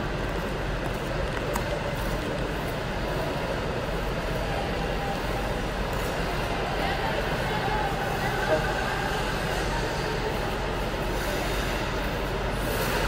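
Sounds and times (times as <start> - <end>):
ice rink hum and hiss: 0.0 - 13.0.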